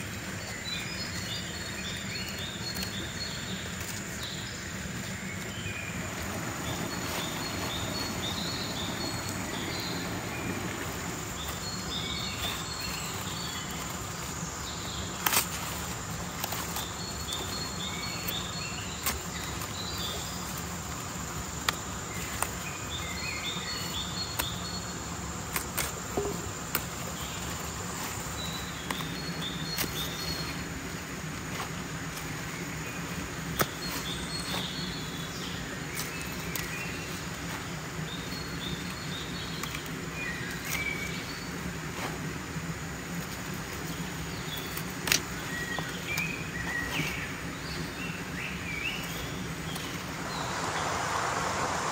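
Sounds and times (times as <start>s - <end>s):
high insect whine: 0.0s - 51.9s
small birds chirping: 0.0s - 51.9s.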